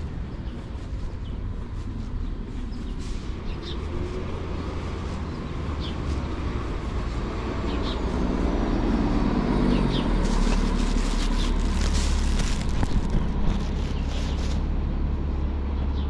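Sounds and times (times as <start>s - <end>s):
vehicle engine and tyres rumbling: 0.0s - 16.0s.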